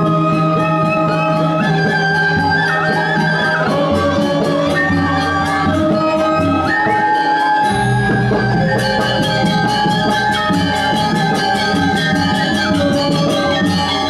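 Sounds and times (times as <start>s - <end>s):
flute-like melody notes: 0.0s - 14.0s.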